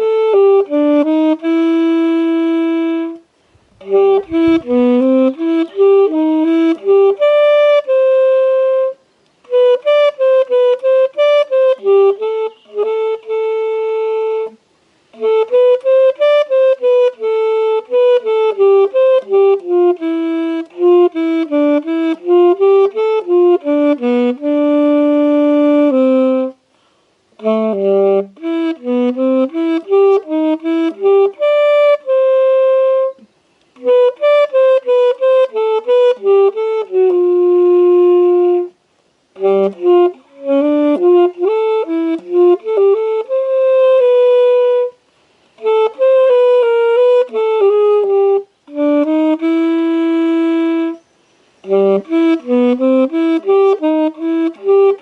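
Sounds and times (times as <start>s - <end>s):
solo wind instrument melody: 0.0s - 55.0s.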